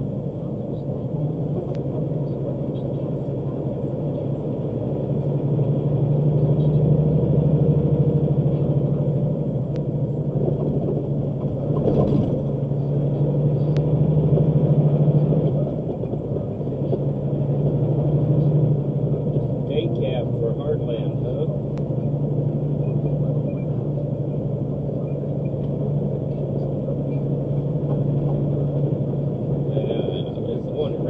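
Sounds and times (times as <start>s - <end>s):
engine and road drone in cab: 0.0s - 31.0s.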